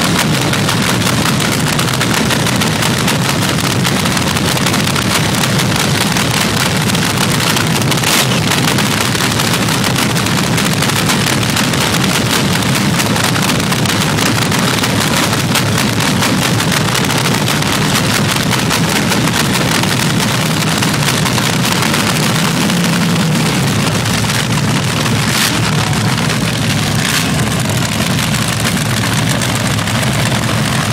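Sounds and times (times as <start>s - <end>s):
drag car engine idling: 0.0s - 30.9s.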